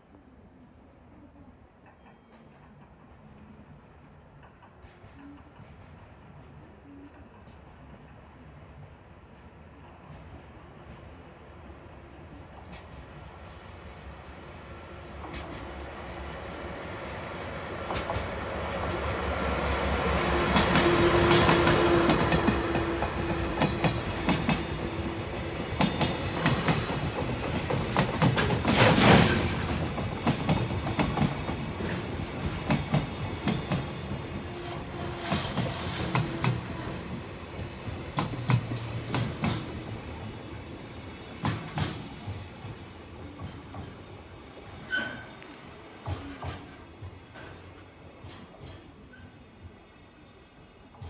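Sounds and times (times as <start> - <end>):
diesel locomotive engine: 0.3 - 51.0.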